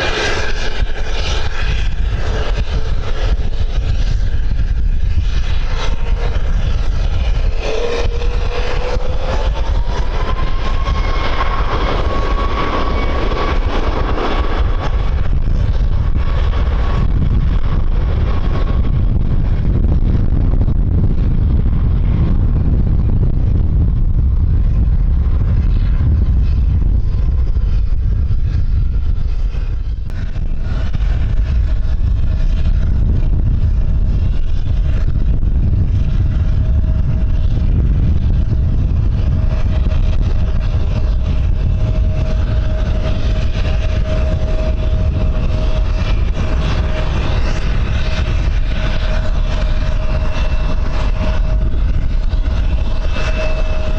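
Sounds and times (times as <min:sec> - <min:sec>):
jet engines whining: 0:00.0 - 0:53.9
wind rumble on microphone: 0:00.0 - 0:53.9.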